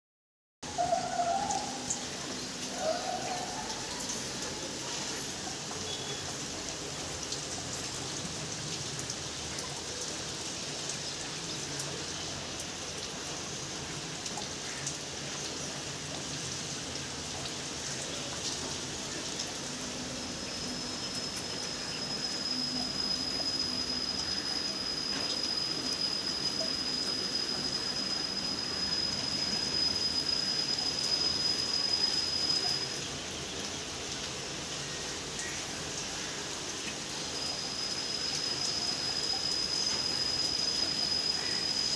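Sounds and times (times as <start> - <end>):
rain falling: 0.6 - 41.9.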